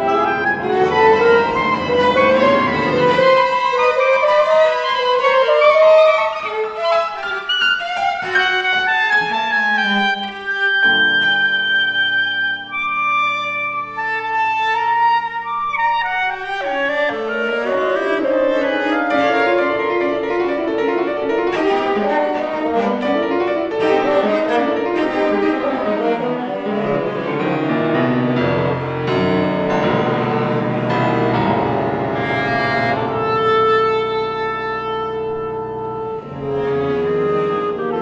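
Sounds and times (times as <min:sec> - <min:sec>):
chamber music quintet: 0:00.0 - 0:38.0.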